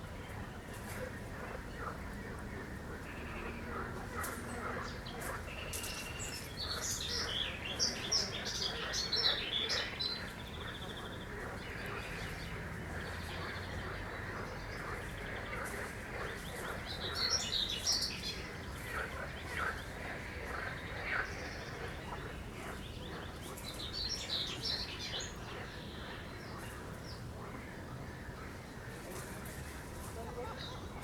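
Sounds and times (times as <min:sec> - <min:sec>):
frogs croaking: 0:00.3 - 0:29.0
songbird chirping: 0:01.8 - 0:31.0.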